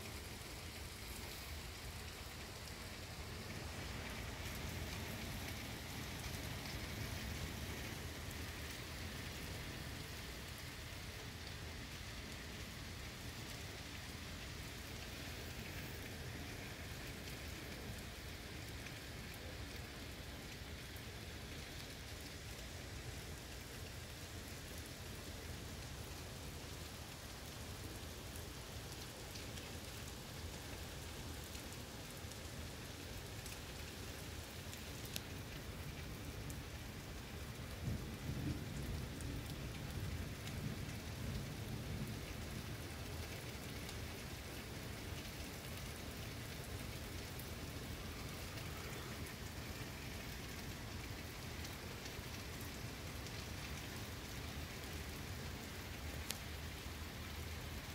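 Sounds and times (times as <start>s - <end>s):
heavy rain through trees: 0.0s - 57.9s.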